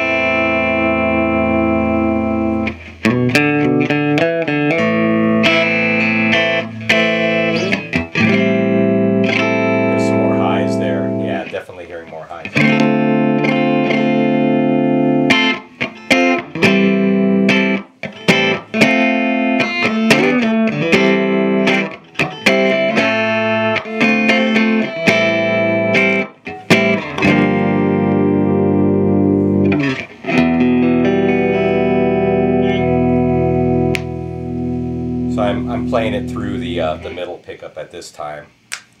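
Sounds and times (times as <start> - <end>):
electric guitar chords: 0.0 - 37.3.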